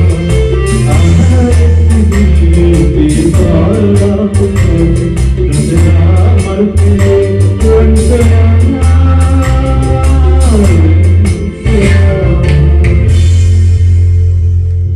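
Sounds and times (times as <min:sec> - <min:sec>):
man singing into a microphone: 0:00.0 - 0:13.5
backing track with bass and drums: 0:00.0 - 0:14.9.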